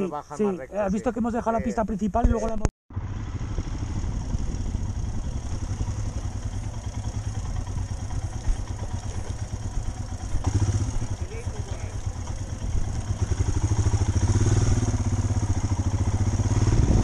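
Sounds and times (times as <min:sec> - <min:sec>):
motorcycle engine pulsing: 0:02.9 - 0:17.0.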